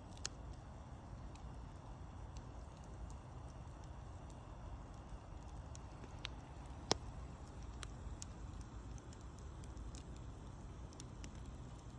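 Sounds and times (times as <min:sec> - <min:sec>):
wood fire crackling: 0:00.0 - 0:11.9.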